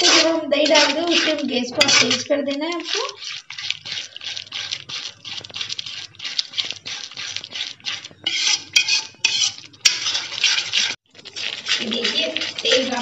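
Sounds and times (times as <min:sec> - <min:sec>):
metal spoon scraping a pan: 0:00.0 - 0:13.0.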